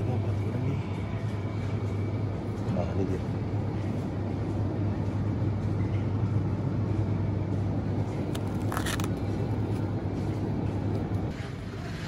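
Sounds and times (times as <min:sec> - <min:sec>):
refrigerated cases humming: 0:00.0 - 0:11.8.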